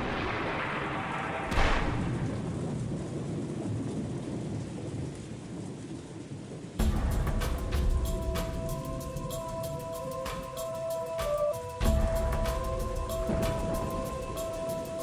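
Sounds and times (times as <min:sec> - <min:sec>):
thunderclap: 0:00.0 - 0:05.8, 0:06.8 - 0:10.6, 0:11.2 - 0:15.0
low thunder rumble: 0:00.0 - 0:10.6, 0:11.8 - 0:15.0
rain hissing: 0:00.0 - 0:15.0.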